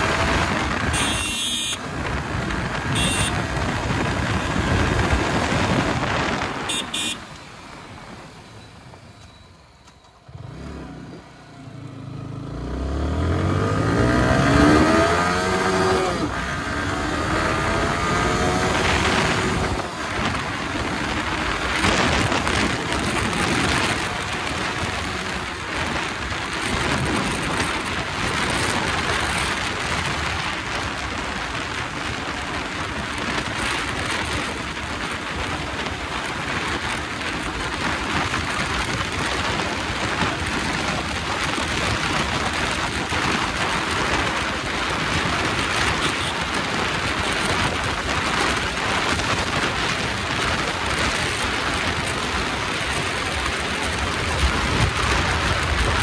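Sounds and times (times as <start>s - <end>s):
wind buffeting microphone: 0.0s - 7.1s, 13.4s - 56.0s.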